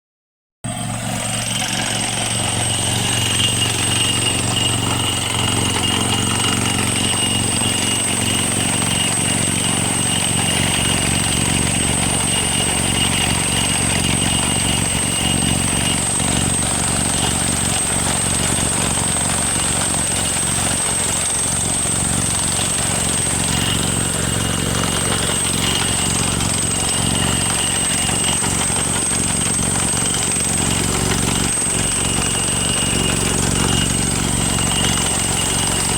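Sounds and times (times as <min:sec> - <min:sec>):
drilling machine drone: 0:00.7 - 0:35.9
thin high whine: 0:00.7 - 0:35.9.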